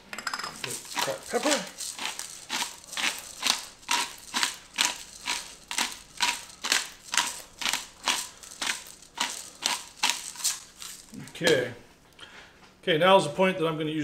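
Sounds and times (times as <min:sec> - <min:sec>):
pepper grinder crunching peppercorns: 0:00.2 - 0:11.8.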